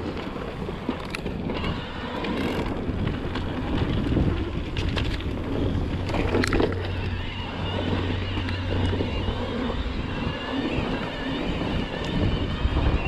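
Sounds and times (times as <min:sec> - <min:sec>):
bike clicks and rattles: 0:00.0 - 0:13.0
bike rolling over dirt trail: 0:00.0 - 0:13.0
wind on microphone: 0:00.0 - 0:13.0.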